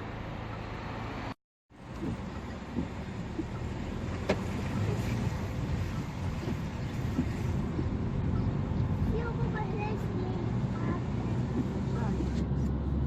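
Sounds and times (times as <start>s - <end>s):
car driving on motorway: 0.0s - 13.0s.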